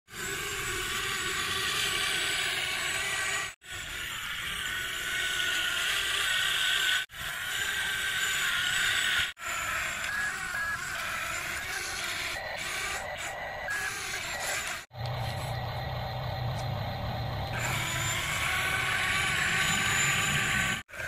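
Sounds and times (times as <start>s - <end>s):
small electric motor whirring: 0.1s - 21.0s.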